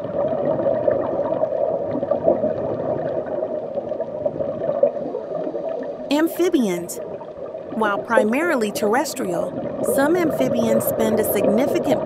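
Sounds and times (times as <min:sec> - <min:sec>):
muffled wash of water: 0:00.0 - 0:06.1, 0:07.0 - 0:12.0.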